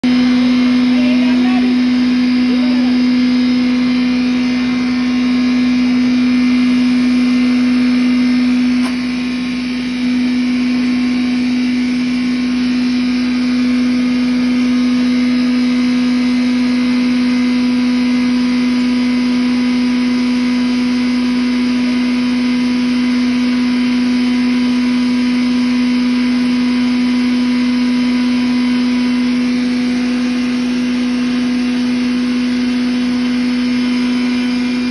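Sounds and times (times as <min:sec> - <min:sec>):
grinder machine humming: 0:00.0 - 0:34.9
grinding and blower air rush: 0:00.0 - 0:34.9.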